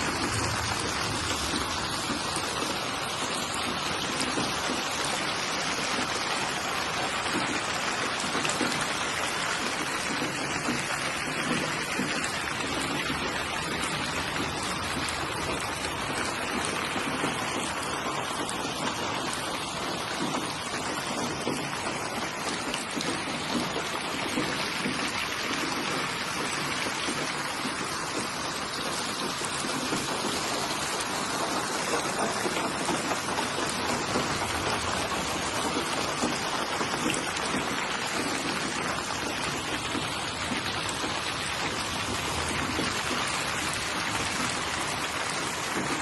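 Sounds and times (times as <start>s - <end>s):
rain pattering: 0.0s - 46.0s.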